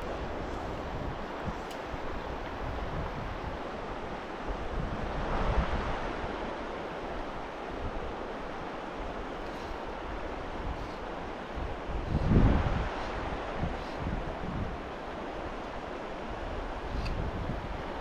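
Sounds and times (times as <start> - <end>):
wind buffeting microphone: 0.0 - 6.6, 9.0 - 18.0
stream water rushing: 0.0 - 18.0.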